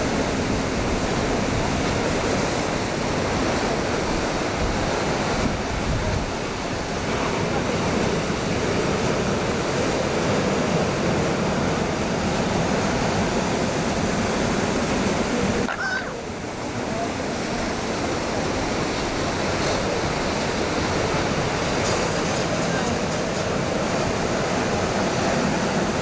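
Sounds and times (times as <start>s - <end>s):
waves breaking and washing in: 0.0s - 26.0s.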